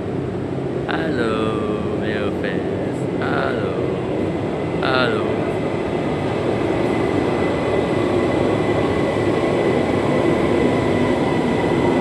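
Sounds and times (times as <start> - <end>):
high whine: 0.0 - 12.0
train rumbling: 0.0 - 12.0.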